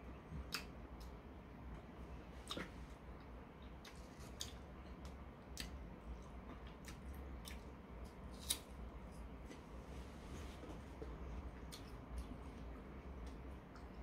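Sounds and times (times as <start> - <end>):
quiet chewing: 2.4 - 14.0.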